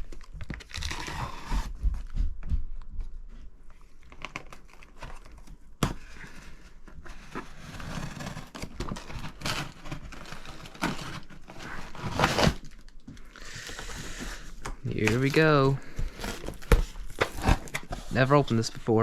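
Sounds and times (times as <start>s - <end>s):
cardboard crinkling and tearing: 0.0s - 1.8s, 4.0s - 19.0s.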